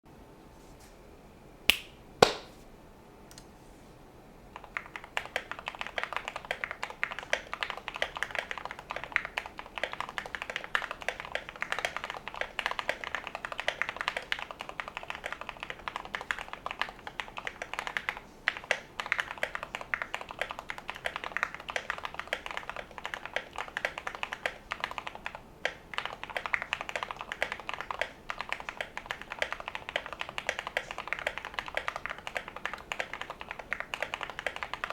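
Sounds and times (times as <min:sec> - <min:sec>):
mechanical keyboard typing: 0:04.6 - 0:34.9
sharp loud keyboard clacks: 0:04.6 - 0:34.9.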